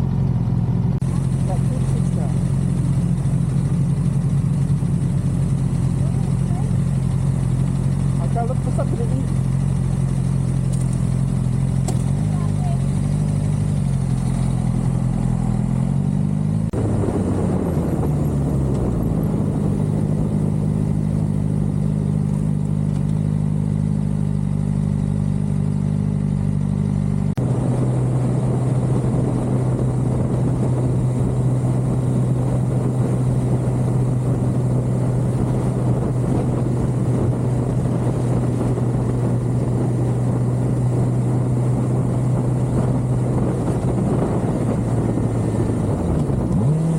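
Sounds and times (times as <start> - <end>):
motorcycle engine running: 0.0 - 46.9
wind and road noise: 0.0 - 46.9.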